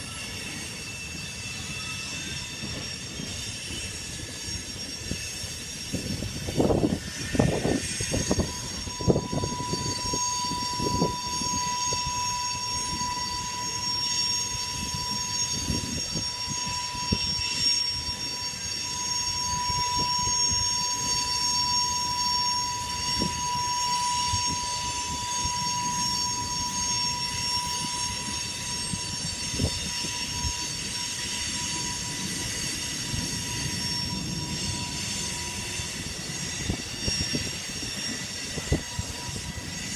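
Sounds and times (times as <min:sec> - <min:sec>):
high-pitched wheel squeal: 0:00.0 - 0:39.9.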